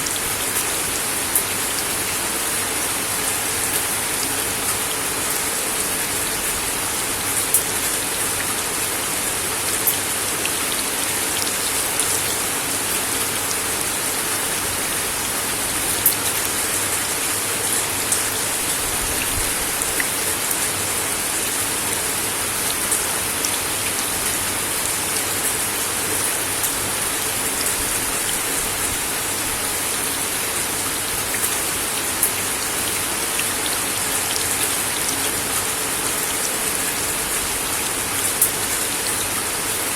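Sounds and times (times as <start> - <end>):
rain on a wooden deck: 0.0 - 39.9.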